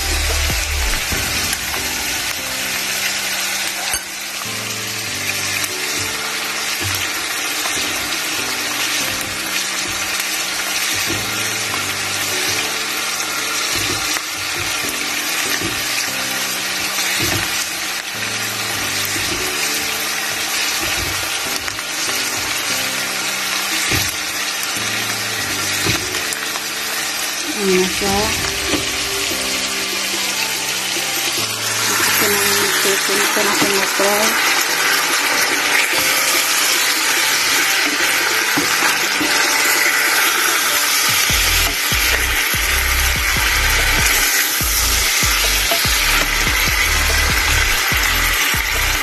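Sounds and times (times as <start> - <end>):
onion sizzling in hot oil: 0.0 - 49.0
quiet background music: 0.0 - 49.0.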